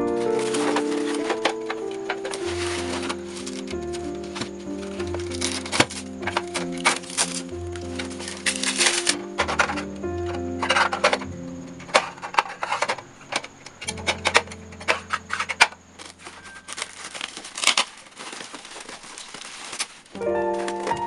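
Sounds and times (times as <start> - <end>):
cardboard packaging tearing: 0.0 - 11.3, 11.9 - 21.0.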